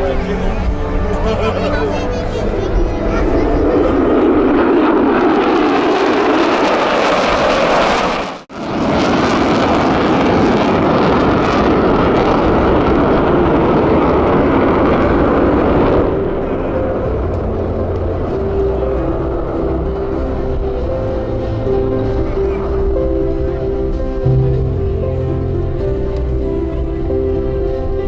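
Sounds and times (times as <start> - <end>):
jet passing overhead: 0.0 - 28.0.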